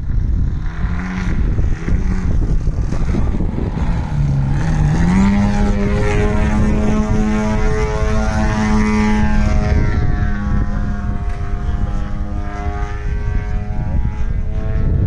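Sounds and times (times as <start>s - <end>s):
model airplane engine droning: 0.0s - 15.0s.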